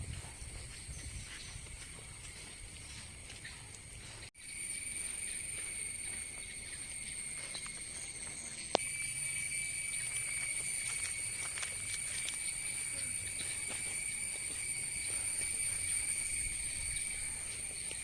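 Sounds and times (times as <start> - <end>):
insect chorus droning: 0.0 - 18.0.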